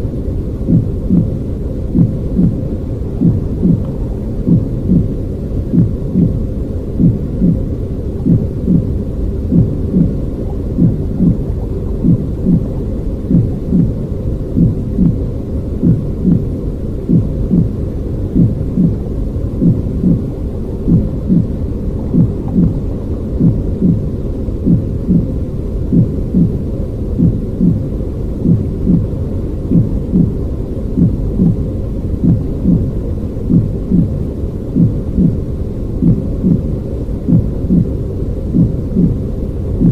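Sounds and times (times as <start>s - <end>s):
low muffled rumbling: 0.0s - 39.9s
soft low thumping pulse: 0.0s - 39.9s.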